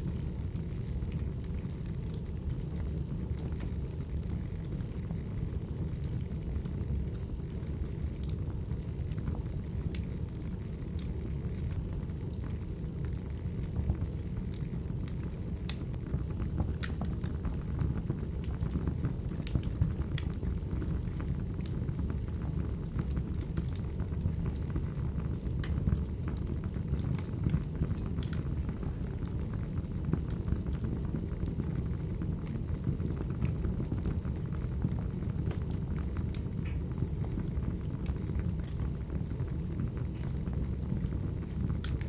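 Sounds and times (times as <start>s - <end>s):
logs crackling and popping: 0.0s - 42.0s
wood fire flames rumbling: 0.0s - 42.0s.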